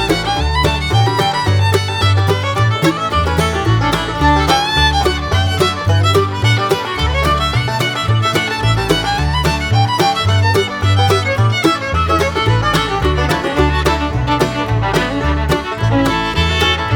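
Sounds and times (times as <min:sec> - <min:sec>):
fiddle-led tune: 0:00.0 - 0:16.9
pulsing bass line: 0:00.0 - 0:16.9.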